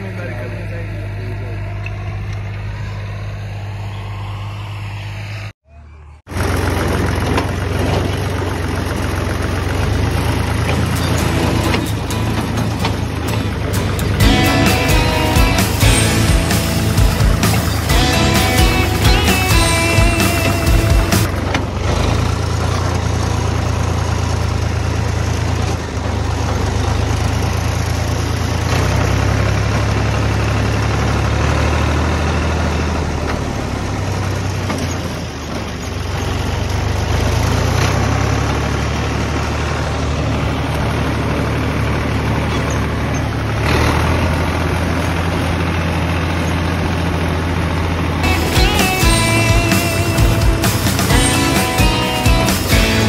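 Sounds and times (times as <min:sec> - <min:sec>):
tractor diesel engine running: 0:00.0 - 0:03.4, 0:06.3 - 0:53.0.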